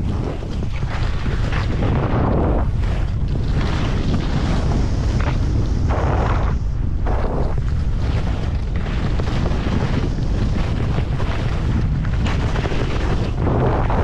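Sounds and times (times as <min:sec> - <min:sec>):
skis scraping across snow: 0:00.0 - 0:14.0
wind buffeting microphone: 0:00.0 - 0:14.0.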